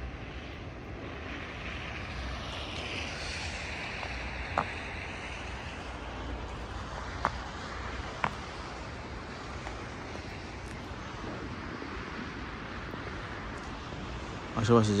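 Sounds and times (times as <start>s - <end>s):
distant road traffic: 0.0s - 15.0s
wind: 0.0s - 15.0s.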